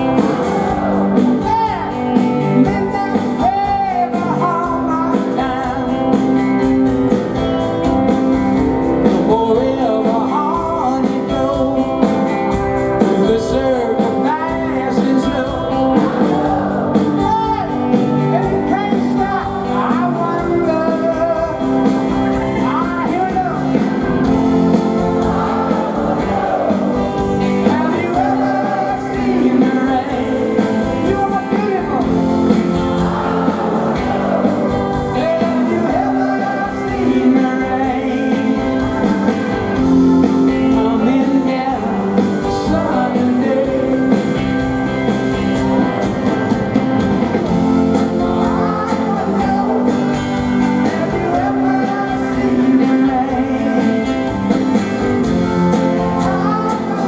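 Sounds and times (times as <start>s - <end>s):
male lead vocal singing: 0.0s - 7.0s, 9.0s - 45.7s, 47.4s - 57.0s
rock band playing live: 0.0s - 57.0s.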